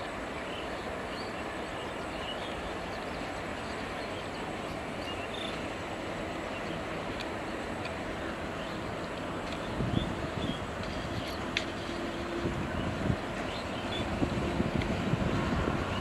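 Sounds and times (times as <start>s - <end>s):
diesel locomotive engine rumble: 0.0s - 16.0s
rail noise: 0.0s - 16.0s.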